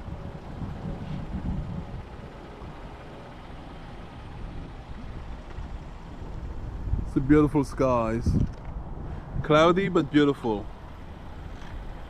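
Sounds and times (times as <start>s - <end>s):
distant highway traffic rumble: 0.0s - 12.0s.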